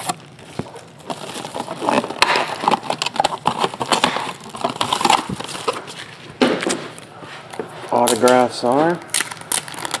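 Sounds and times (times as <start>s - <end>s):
card wrappers crinkling: 0.0s - 6.2s, 7.9s - 10.0s.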